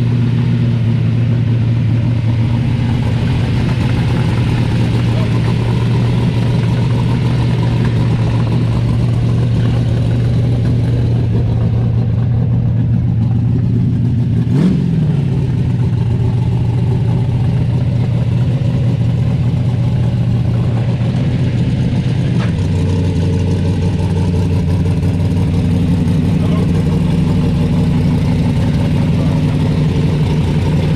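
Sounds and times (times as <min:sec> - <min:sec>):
car engine idling: 0:00.0 - 0:30.9
engine revving: 0:00.0 - 0:30.9.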